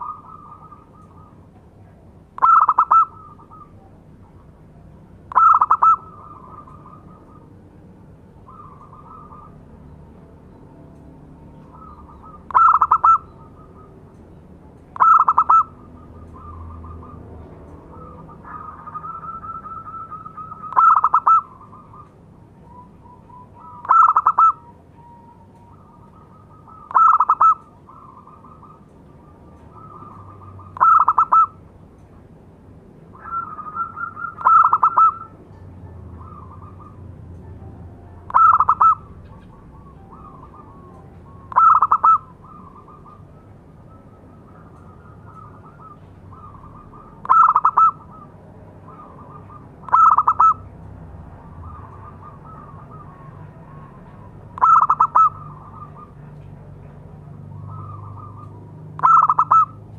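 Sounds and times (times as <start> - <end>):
dove cooing: 0.0 - 9.7, 11.6 - 14.0, 15.0 - 31.6, 33.1 - 35.4, 36.0 - 37.2, 38.2 - 50.7, 51.4 - 59.9.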